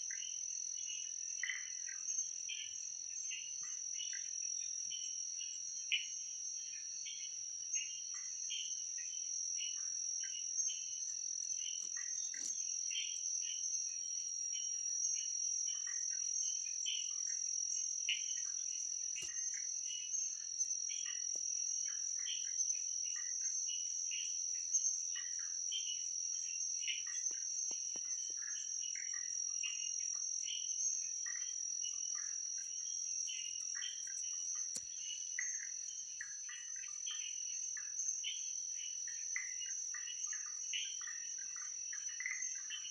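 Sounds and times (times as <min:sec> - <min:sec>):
high-pitched insect trill: 0:00.0 - 0:42.9
insect chirps: 0:00.0 - 0:42.9.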